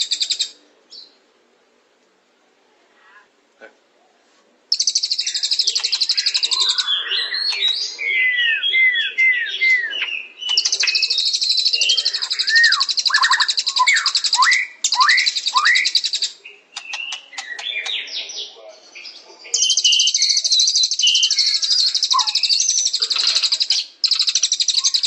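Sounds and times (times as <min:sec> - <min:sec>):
songbird trilling and whistling: 0:04.7 - 0:25.0.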